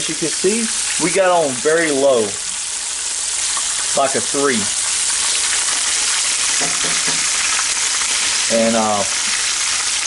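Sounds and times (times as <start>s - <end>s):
meat sizzling in a pan: 0.0s - 10.0s.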